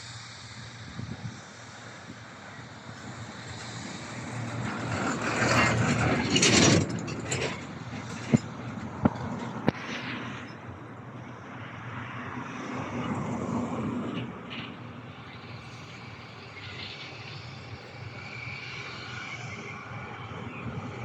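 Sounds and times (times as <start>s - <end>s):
distant jet engine rumble: 0.0s - 21.0s
high jet engine whine: 0.0s - 21.0s.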